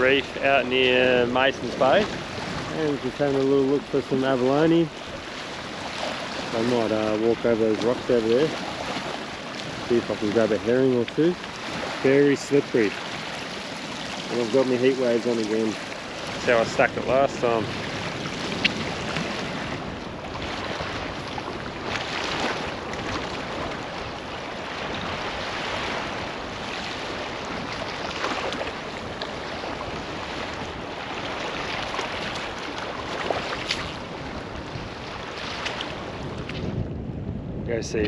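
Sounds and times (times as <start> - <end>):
small waves breaking on rock: 0.0 - 36.7.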